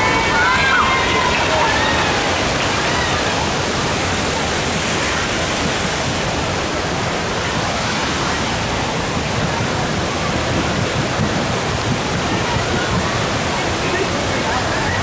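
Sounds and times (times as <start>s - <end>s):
water rushing down rapids: 0.0s - 15.0s.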